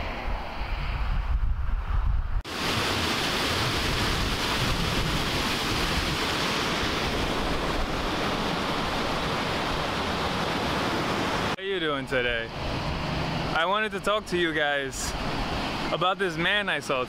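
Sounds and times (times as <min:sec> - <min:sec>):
steady outdoor rushing noise: 0:00.0 - 0:17.0.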